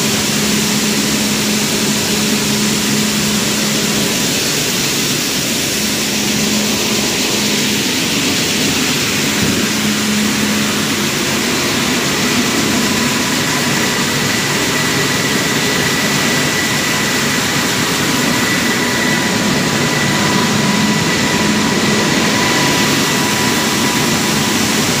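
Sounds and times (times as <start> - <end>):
faint high whine: 0.0 - 25.0
milling machinery running: 0.0 - 25.0.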